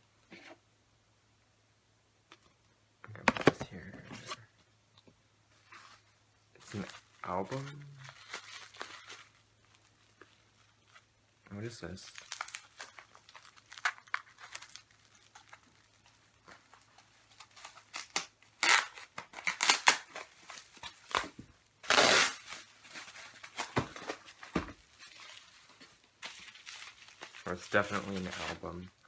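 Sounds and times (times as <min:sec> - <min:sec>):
wrapping paper crinkling and tearing: 0:05.6 - 0:29.0.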